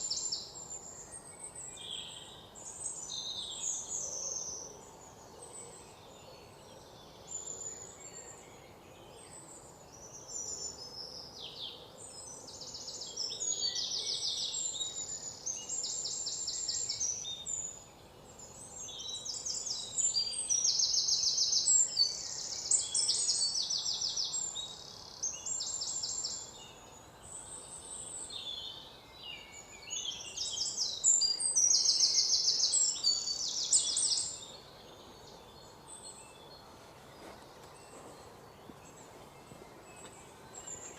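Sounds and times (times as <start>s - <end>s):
faint background hiss: 0.0s - 40.9s
soft bird chirps: 0.0s - 40.9s.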